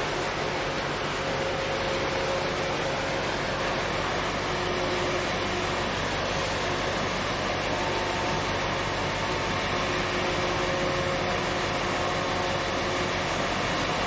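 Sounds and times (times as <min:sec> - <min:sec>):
ship machinery rumbling hum: 0:00.0 - 0:14.0.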